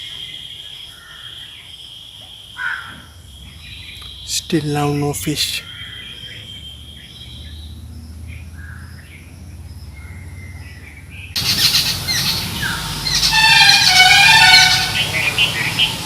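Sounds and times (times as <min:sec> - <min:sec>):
birds calling and chirping: 0:00.0 - 0:16.0.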